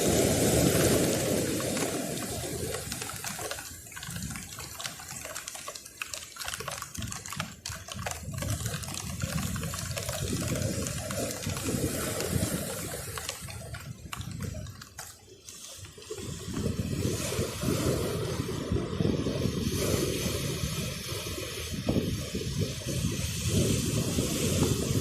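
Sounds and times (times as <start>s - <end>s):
sea water washing over rocks: 0.0s - 25.0s.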